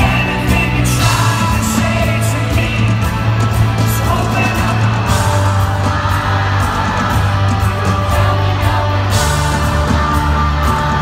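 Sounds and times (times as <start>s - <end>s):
bass guitar: 0.0s - 11.0s
drums: 0.0s - 11.0s
electric guitar: 0.0s - 11.0s.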